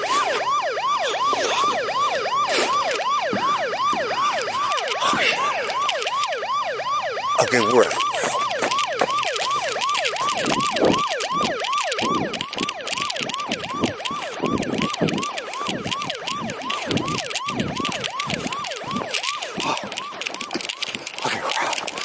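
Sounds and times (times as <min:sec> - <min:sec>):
siren yelping: 0:00.0 - 0:22.0.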